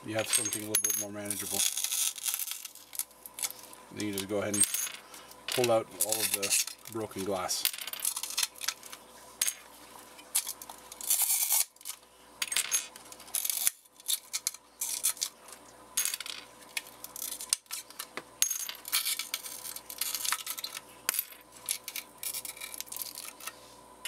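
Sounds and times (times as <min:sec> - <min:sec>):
glass shards clinking and scraping: 0:00.2 - 0:06.9, 0:07.9 - 0:09.6, 0:10.2 - 0:15.4, 0:16.8 - 0:23.6.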